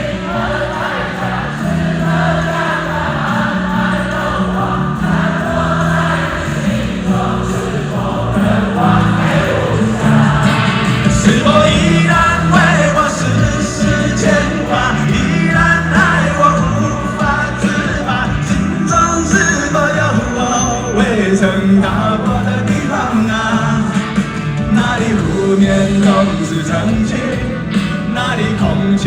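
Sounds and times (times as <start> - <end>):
crowd singing along: 0.0 - 29.0
live rock ballad: 0.0 - 29.0
male singer: 0.0 - 29.0.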